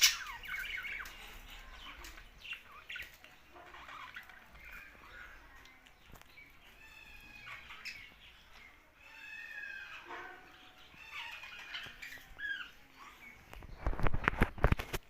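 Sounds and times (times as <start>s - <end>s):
budgerigars chattering: 0.0s - 5.5s, 6.6s - 13.9s.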